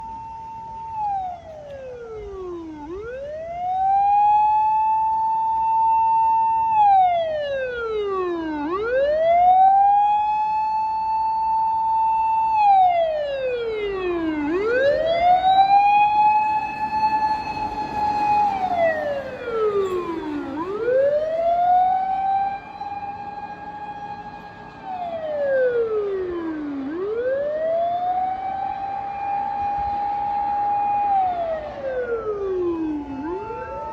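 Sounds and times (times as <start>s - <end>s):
mechanical siren wailing: 0.0s - 33.9s.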